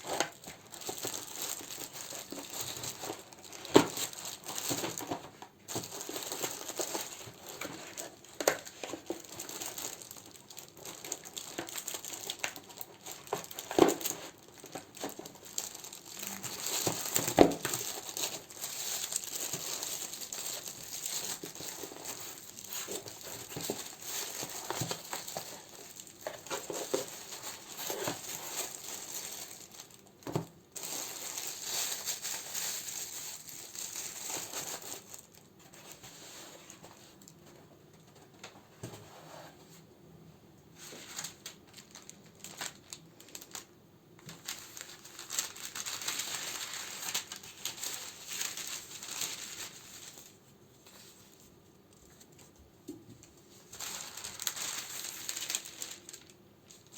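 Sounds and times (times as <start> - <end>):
packaging crinkling: 0.0 - 37.4, 40.8 - 52.5, 53.2 - 56.9.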